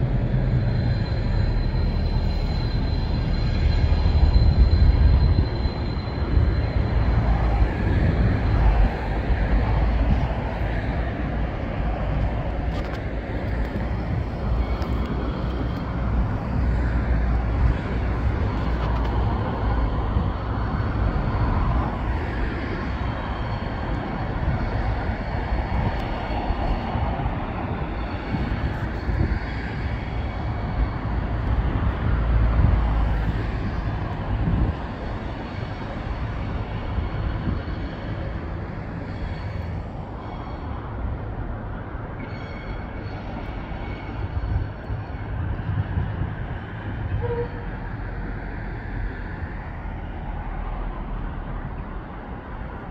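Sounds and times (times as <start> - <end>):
diesel locomotive engine under load: 0.0 - 52.9
wagons rumbling over track: 0.0 - 52.9.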